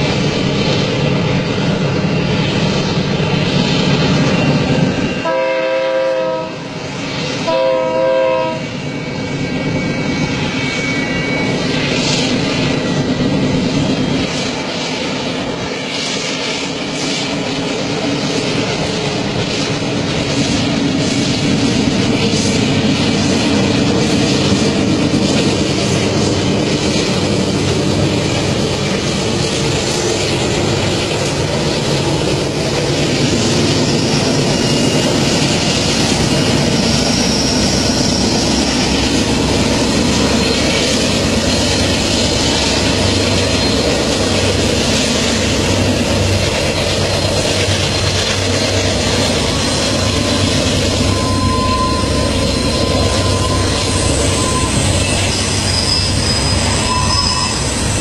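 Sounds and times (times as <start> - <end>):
freight train rumbling past: 0.0 - 58.0
high wheel squeal: 1.8 - 5.4, 6.7 - 15.0, 15.7 - 58.0.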